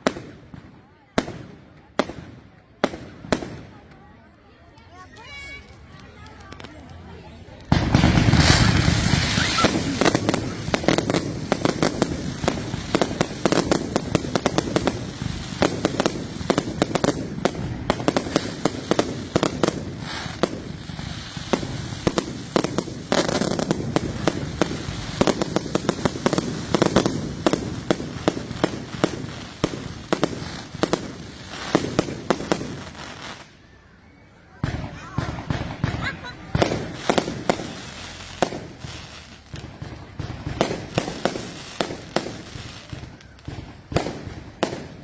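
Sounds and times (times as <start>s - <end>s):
fireworks booming: 0.0s - 4.0s, 6.4s - 33.5s, 34.6s - 45.0s
fireworks crackling: 0.0s - 33.8s, 34.4s - 45.0s.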